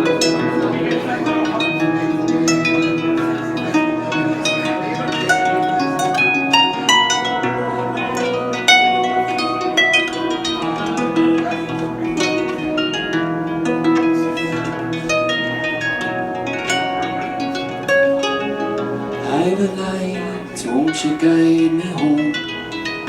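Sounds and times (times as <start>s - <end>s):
solo harp playing: 0.0s - 23.0s.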